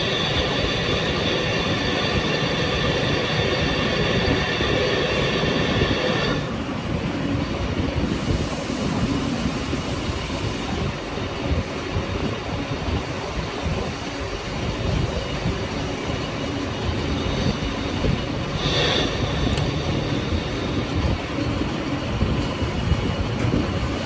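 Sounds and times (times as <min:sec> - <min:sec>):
lathe high-pitched whine: 0:00.0 - 0:24.0
low rumbling machining noise: 0:00.0 - 0:24.0.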